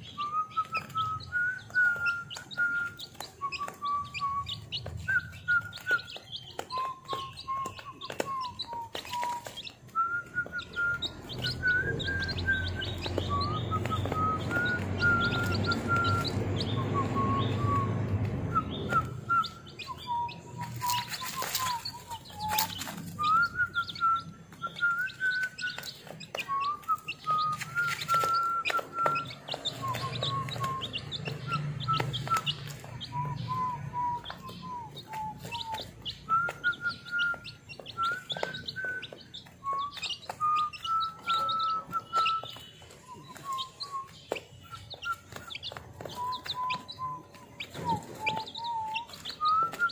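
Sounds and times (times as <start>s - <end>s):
beaks pecking at feed: 0.0s - 49.9s
chicks peeping: 0.0s - 49.9s
whistled tones: 0.0s - 49.9s.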